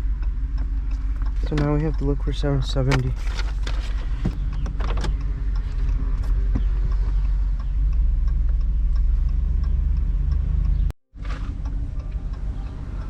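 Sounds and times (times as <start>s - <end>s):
turn signal ticking: 0.0s - 13.0s
vehicle engine and road rumble: 0.0s - 13.0s.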